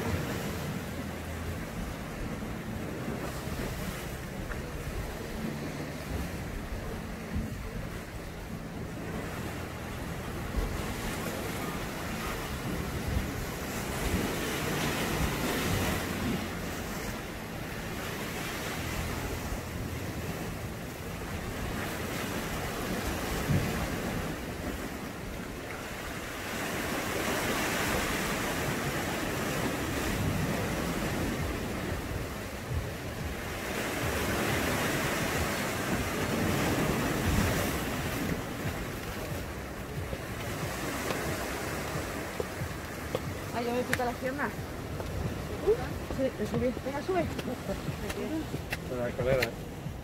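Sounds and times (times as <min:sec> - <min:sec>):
waves breaking over rocks: 0:00.0 - 0:50.0
wind buffeting microphone: 0:00.0 - 0:50.0.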